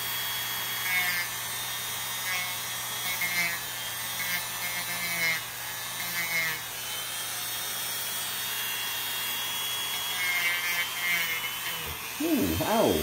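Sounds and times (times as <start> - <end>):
rotary tool grinding nails: 0.0 - 13.0.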